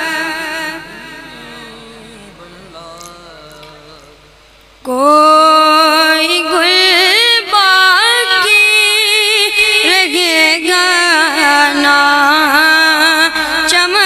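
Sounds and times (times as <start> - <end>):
boy singing into a microphone: 0.0 - 4.2, 4.8 - 14.0.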